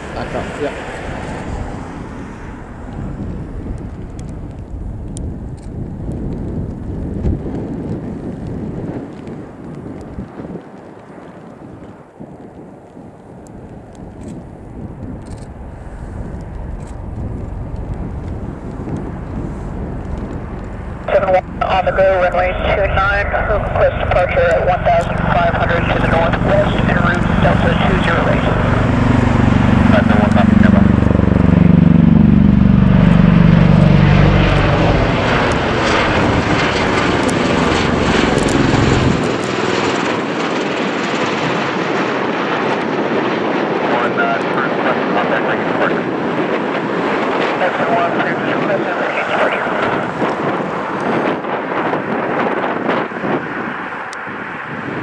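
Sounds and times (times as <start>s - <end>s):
aircraft rotors rumbling: 0.0s - 55.0s.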